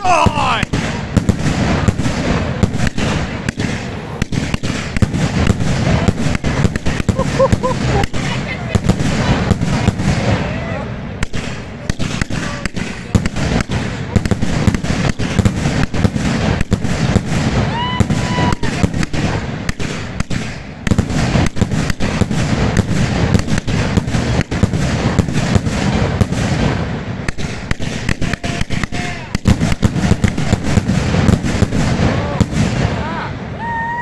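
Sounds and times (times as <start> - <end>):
firework aerial bursts: 0.0 - 34.0.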